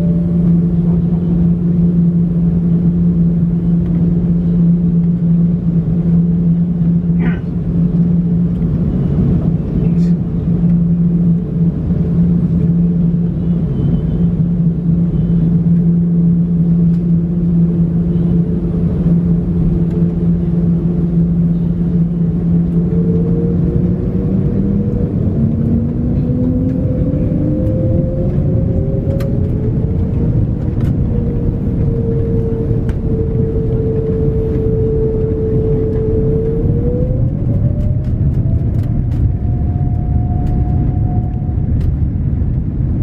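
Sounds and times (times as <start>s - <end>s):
cabin rumble: 0.0s - 43.0s
jet engine whine rising: 0.0s - 43.0s.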